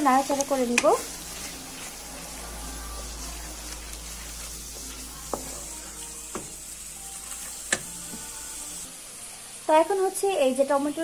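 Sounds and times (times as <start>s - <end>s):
wooden spoon stirring in pot: 0.0s - 8.8s
paste sizzling in oil: 0.0s - 11.0s.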